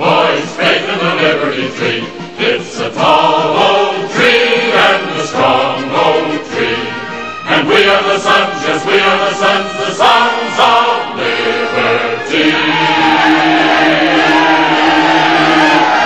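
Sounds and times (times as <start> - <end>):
men's chorus singing: 0.0 - 16.0
band playing march: 0.1 - 16.0.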